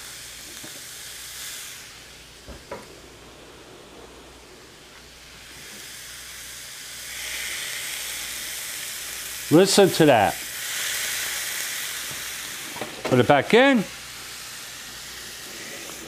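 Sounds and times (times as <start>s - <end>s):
meat sizzling on a grill: 0.0s - 3.7s, 4.6s - 16.0s.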